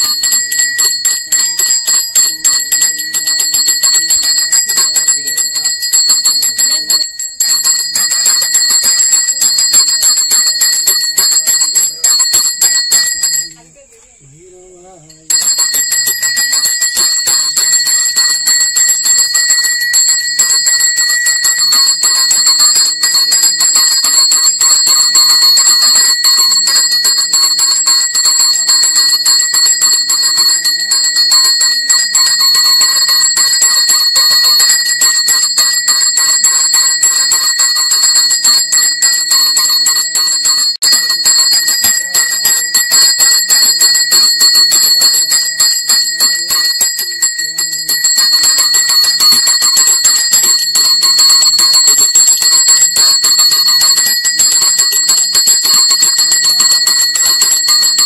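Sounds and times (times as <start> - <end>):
bells ringing rapidly: 0.0 - 13.9, 14.5 - 58.0.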